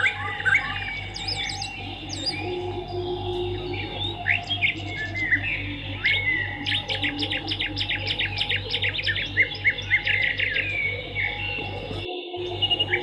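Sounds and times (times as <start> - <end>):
steady low hum: 0.0 - 13.0
swiftlets twittering: 0.0 - 13.0.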